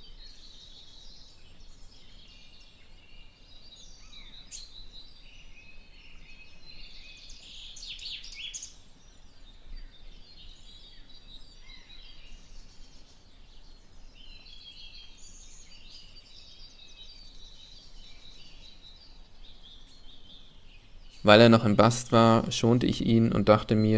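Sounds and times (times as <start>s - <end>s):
songbirds singing: 0.0s - 23.9s.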